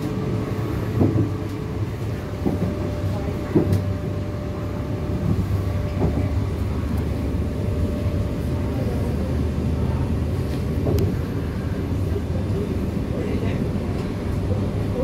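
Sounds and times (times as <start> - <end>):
train rumble on rails: 0.0 - 15.0.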